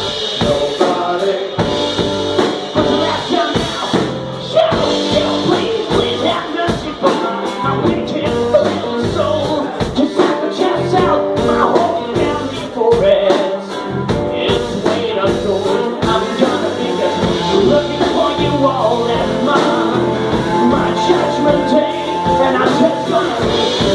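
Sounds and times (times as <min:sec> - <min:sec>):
drum kit beat: 0:00.0 - 0:23.9
electric guitars: 0:00.0 - 0:23.9
keyboard: 0:00.0 - 0:23.9.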